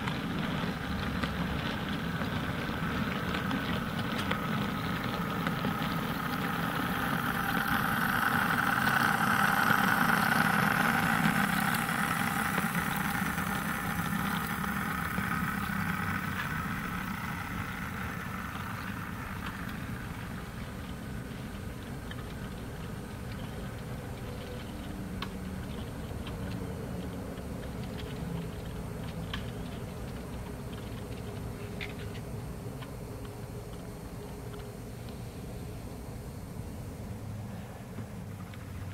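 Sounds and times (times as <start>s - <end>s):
model train rumbling past: 0.0s - 32.2s.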